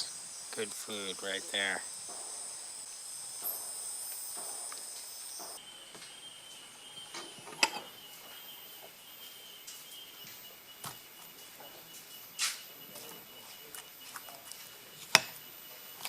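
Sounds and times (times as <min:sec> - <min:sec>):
insects calling high-pitched: 0:00.0 - 0:16.0.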